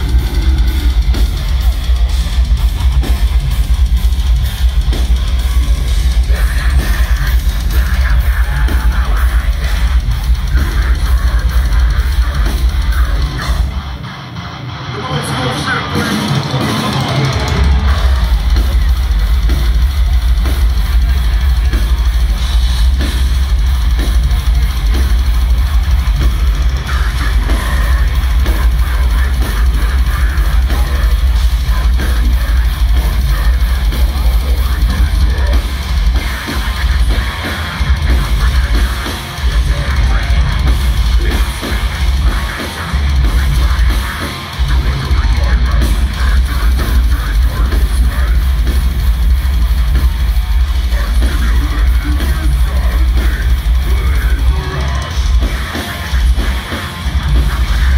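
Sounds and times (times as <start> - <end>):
heavy metal band playing live: 0.0 - 57.9.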